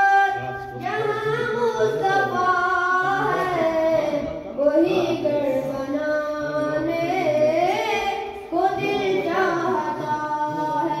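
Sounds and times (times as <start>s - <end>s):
young person singing unaccompanied: 0.0s - 11.0s.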